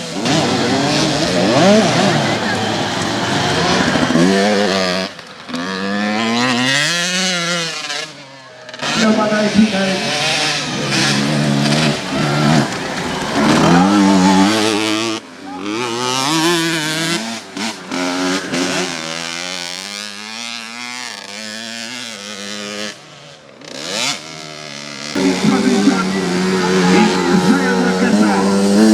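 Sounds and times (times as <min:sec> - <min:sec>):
motocross bikes revving: 0:00.0 - 0:28.9.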